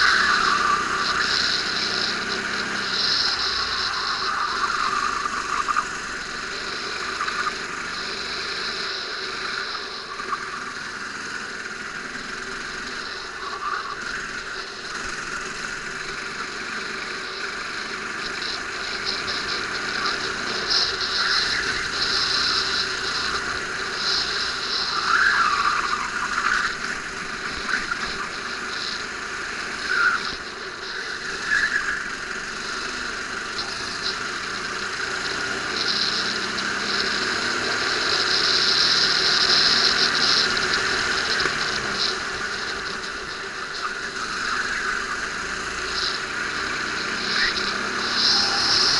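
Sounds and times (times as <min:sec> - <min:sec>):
go-kart engine revving: 0:00.0 - 0:48.9
high tyre squeal: 0:00.0 - 0:48.9.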